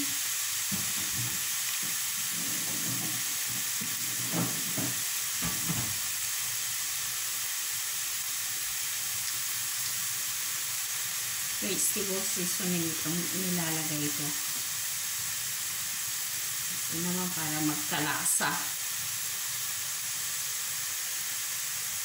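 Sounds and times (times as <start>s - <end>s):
spinach sizzling in a frying pan: 0.0s - 22.0s.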